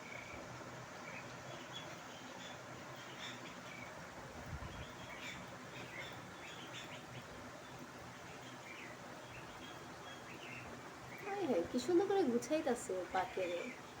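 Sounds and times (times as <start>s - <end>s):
low background hiss: 0.0s - 14.0s
young birds chirping: 0.0s - 14.0s.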